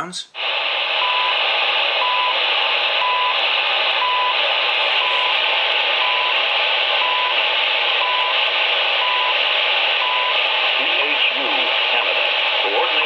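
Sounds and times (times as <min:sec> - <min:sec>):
shortwave static: 0:00.3 - 0:13.0.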